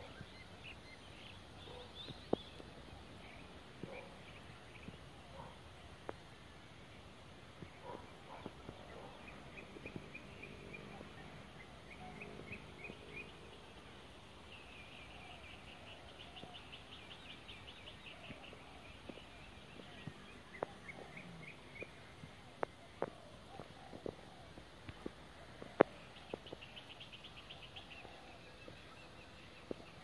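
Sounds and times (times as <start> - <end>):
low background hiss: 0.0 - 30.0.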